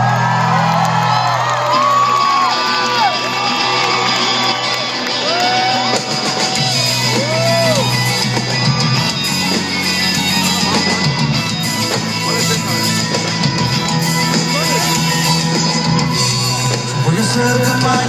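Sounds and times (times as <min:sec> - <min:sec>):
live rock band playing: 0:00.2 - 0:18.0.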